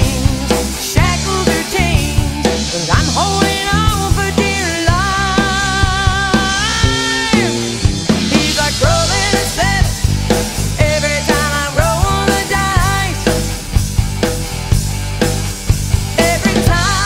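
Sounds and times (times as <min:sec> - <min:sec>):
bending lead guitar line: 0:00.0 - 0:17.0
rock band music: 0:00.0 - 0:17.0.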